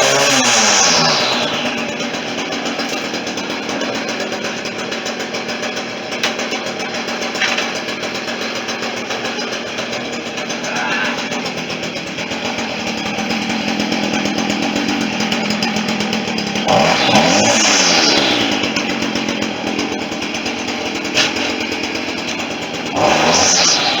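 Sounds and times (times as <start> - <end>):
string trimmer engine idling and revving: 0.0 - 24.0.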